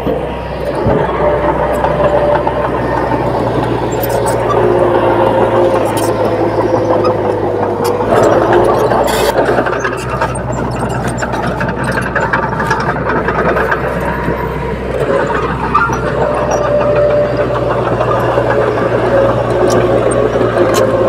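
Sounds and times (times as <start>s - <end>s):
bulldozer diesel engine under load: 0.0s - 21.0s
machine rattle: 0.7s - 21.0s.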